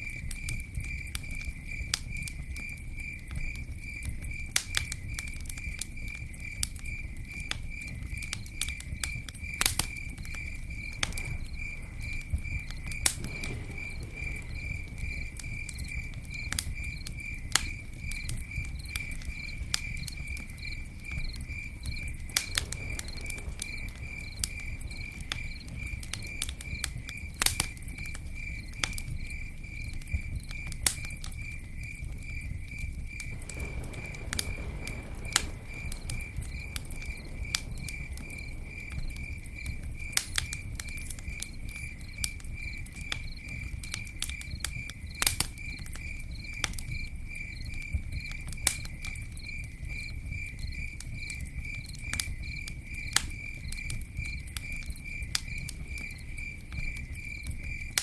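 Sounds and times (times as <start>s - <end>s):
campfire crackling: 0.0s - 58.0s
cricket chirping: 0.0s - 58.0s.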